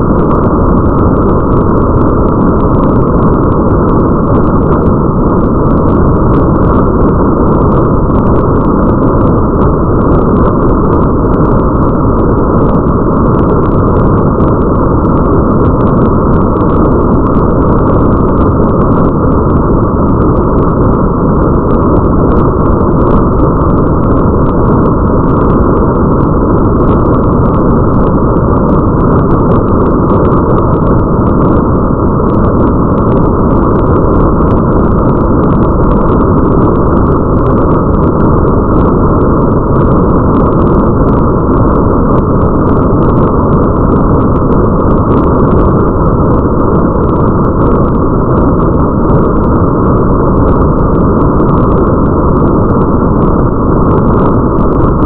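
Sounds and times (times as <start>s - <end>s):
muffled rain hiss: 0.0s - 55.0s.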